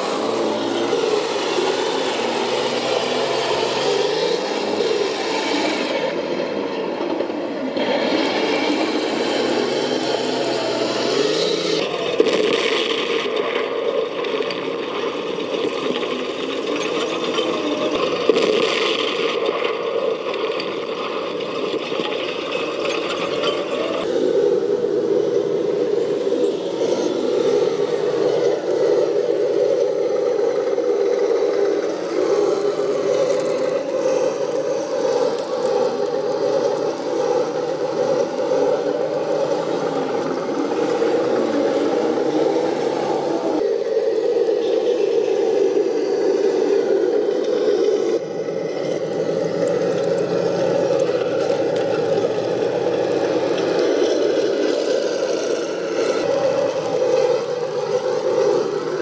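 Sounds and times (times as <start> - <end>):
electric motors whining: 0.0 - 59.0.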